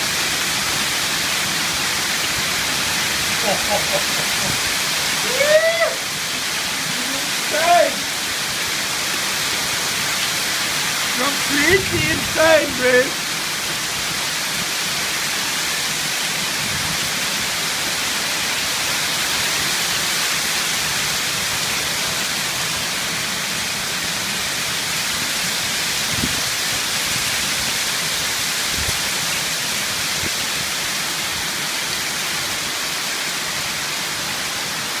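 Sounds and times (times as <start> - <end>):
hailstones pelting the ground: 0.0 - 35.0.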